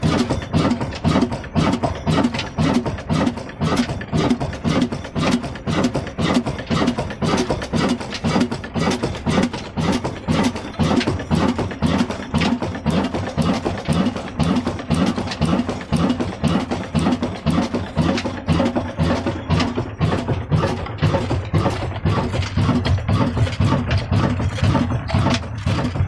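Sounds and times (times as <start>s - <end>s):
stationary diesel engine running: 0.0s - 26.0s.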